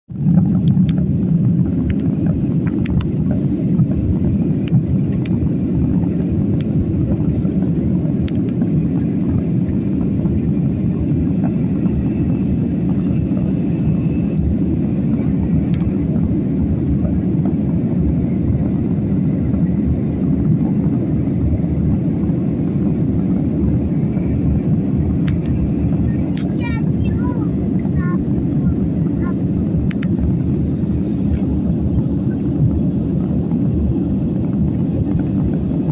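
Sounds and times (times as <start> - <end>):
airliner engines rumbling in cabin: 0.1 - 35.9.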